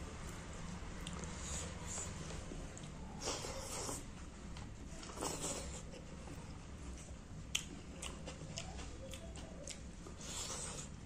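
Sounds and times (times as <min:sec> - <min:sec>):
person chewing food: 0:00.3 - 0:04.1, 0:05.0 - 0:11.0.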